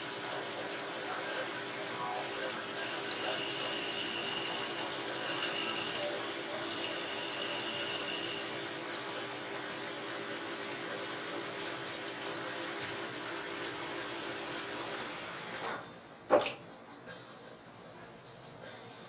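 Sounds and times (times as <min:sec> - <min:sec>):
machine running: 0:00.0 - 0:15.6.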